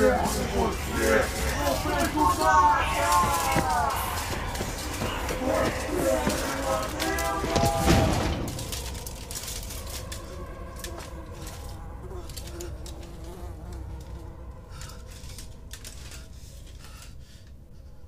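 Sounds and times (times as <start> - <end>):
flies buzzing: 0.0 - 15.7
low steady drone: 0.0 - 18.0.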